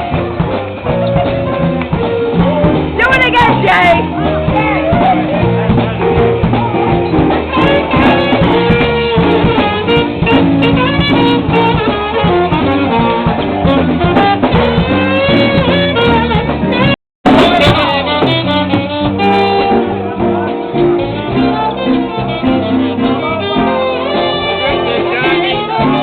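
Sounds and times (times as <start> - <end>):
live band playing upbeat music: 0.0 - 26.0.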